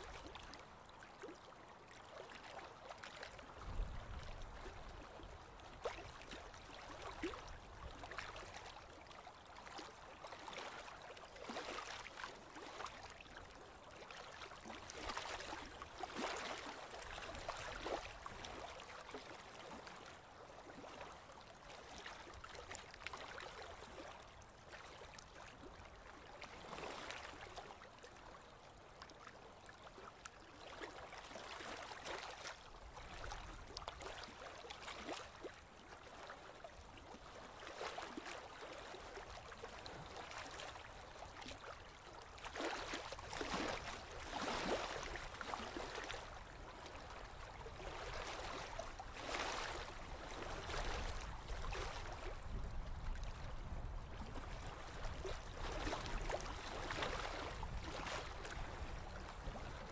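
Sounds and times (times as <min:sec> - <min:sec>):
water lapping against boat hull: 0:00.1 - 0:59.9.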